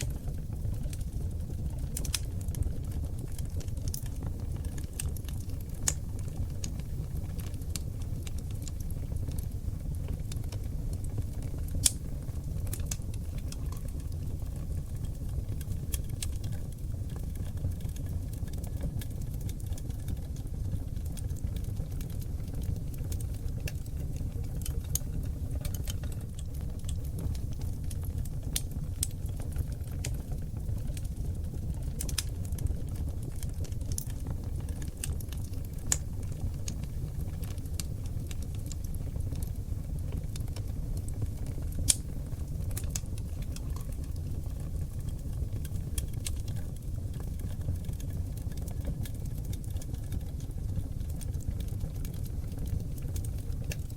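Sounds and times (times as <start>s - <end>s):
fire crackling and popping: 0.0s - 53.9s
fire rumbling: 0.0s - 53.9s.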